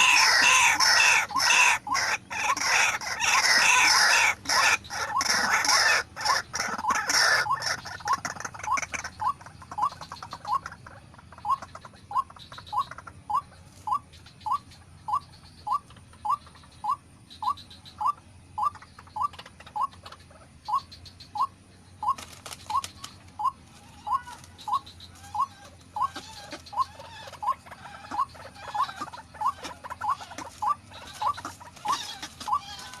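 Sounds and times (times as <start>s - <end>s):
waterhen calling: 0.0s - 33.0s.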